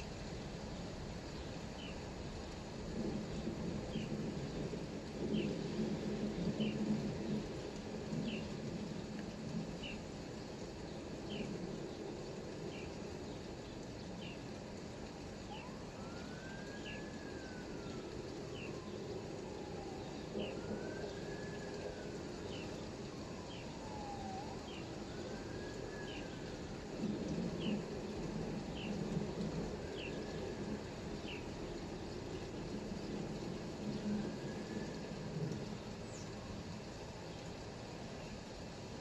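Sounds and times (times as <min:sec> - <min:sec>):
steady rain hiss: 0:00.0 - 0:39.0
distant siren wailing: 0:01.6 - 0:38.4.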